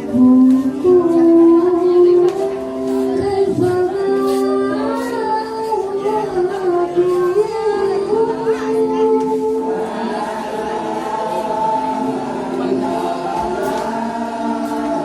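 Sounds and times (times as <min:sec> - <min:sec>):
voices singing slow melody: 0:00.0 - 0:15.0.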